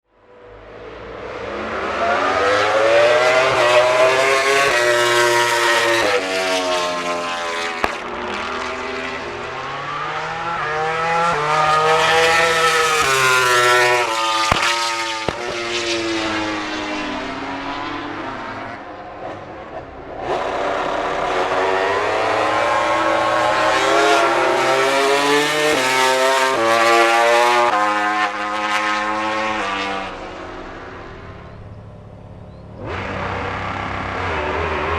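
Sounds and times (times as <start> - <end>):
racing motorcycle engines revving: 0.4 - 34.9.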